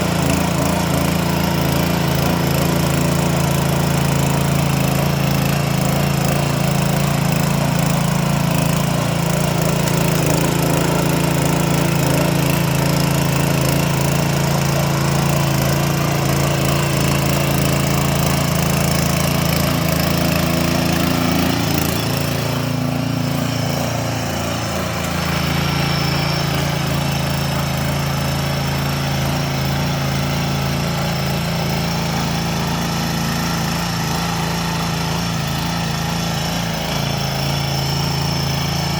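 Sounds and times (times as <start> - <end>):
motor tiller engine running: 0.0 - 38.9.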